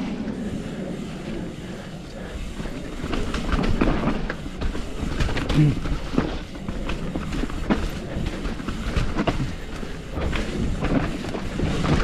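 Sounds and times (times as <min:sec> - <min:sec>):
bike tyres on dirt: 0:00.0 - 0:12.0
bike clattering over bumps: 0:02.4 - 0:12.0.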